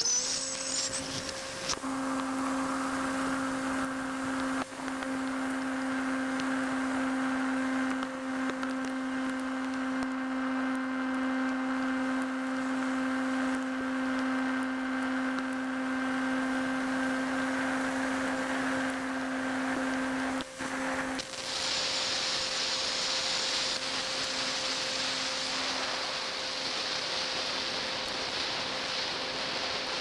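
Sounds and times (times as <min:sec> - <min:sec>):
model aircraft motor humming: 0:00.0 - 0:30.0.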